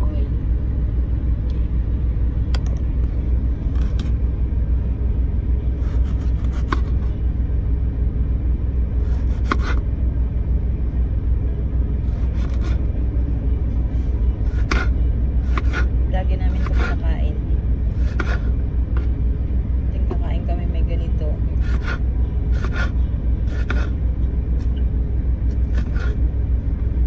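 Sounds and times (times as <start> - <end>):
truck engine rumble inside cab: 0.0 - 27.0.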